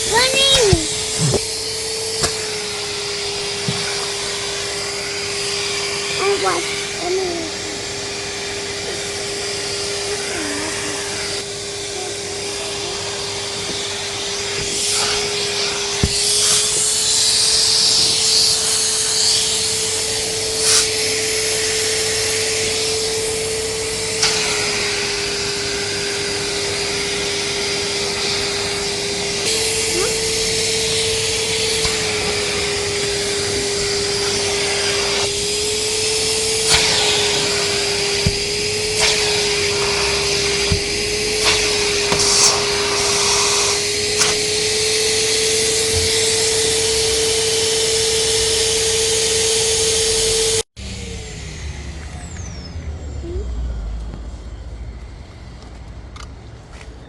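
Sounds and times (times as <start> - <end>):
vacuum cleaner running: 0.0 - 55.3.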